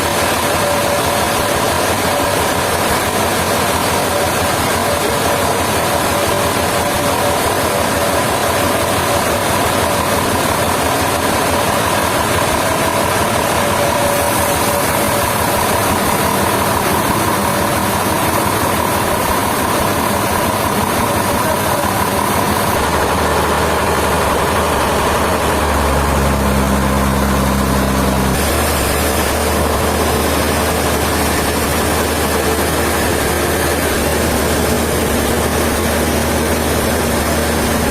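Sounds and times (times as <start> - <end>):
deep engine hum: 0.0 - 37.9
sawmill machinery whine: 0.0 - 37.9.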